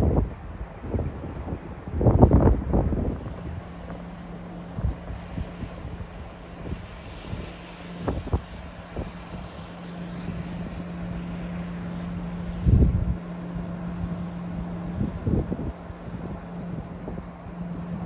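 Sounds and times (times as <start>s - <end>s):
diesel locomotive engine drone: 0.0s - 18.0s
wind buffeting microphone: 0.0s - 18.0s.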